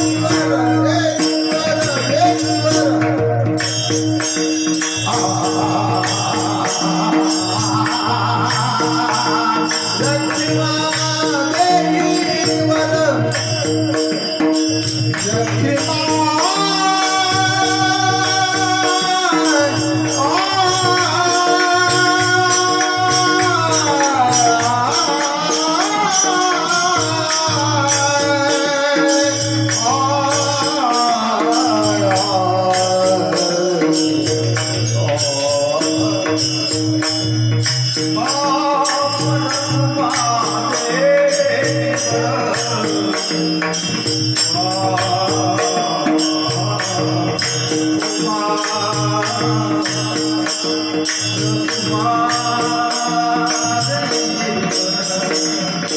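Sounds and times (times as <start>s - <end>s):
devotional singing over drone: 0.0s - 55.9s
jingling hand cymbals: 0.0s - 55.9s.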